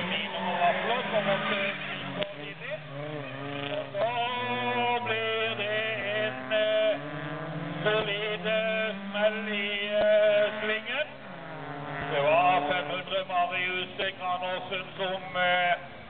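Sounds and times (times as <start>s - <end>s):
low engine drone: 0.0s - 16.0s
racing car engines revving: 0.0s - 16.0s.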